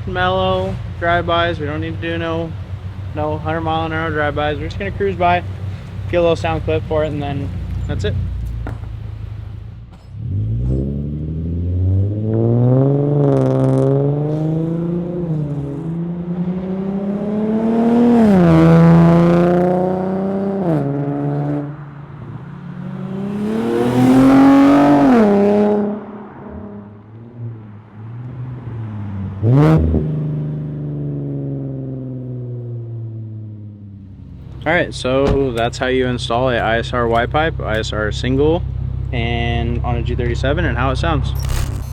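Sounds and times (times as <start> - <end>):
car exhaust accelerating: 0.0 - 41.9.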